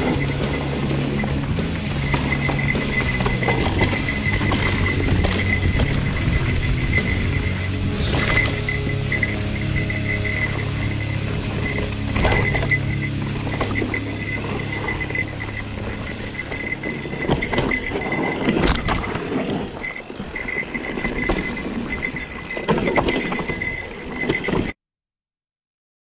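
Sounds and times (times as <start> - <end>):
bike tyres rolling on dirt: 0.0 - 24.7
bike rattling over rocks: 0.0 - 24.8.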